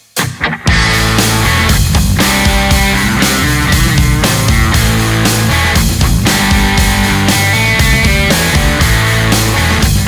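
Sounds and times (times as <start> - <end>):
backing drums: 0.0 - 10.0
distorted electric guitar riff: 0.0 - 10.0.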